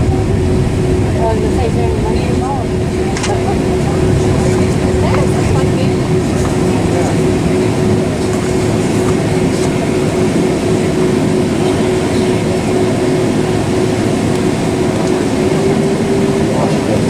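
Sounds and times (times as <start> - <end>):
airplane cabin engine rumble: 0.0 - 17.0
constant hum: 0.0 - 17.0.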